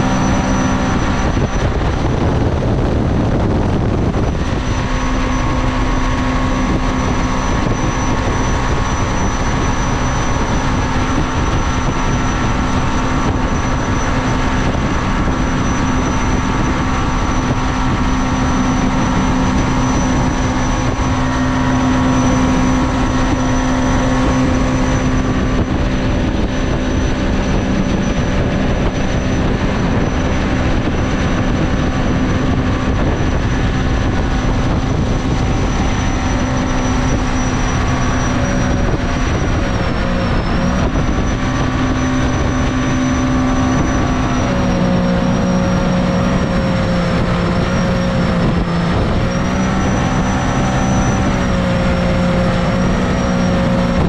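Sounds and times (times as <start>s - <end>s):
boat engine drone: 0.0s - 54.0s
rushing water noise: 0.0s - 54.0s.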